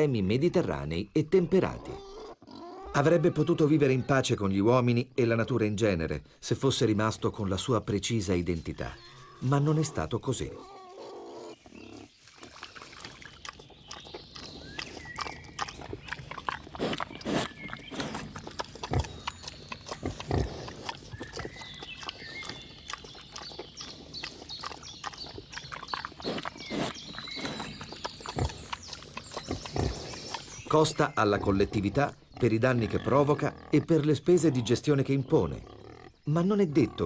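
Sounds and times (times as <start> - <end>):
wild boars grunting and snorting: 0.0 - 4.6, 5.6 - 37.0.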